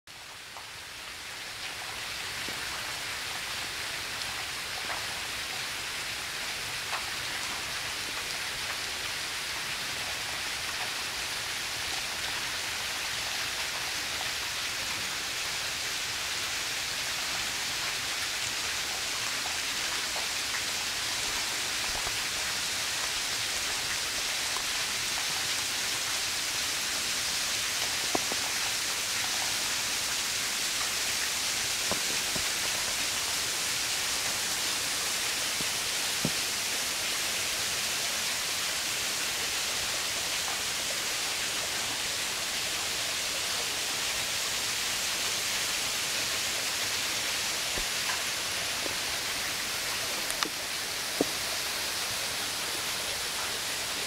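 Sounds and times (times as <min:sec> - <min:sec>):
waterfall rushing hiss: 0:00.4 - 0:54.0.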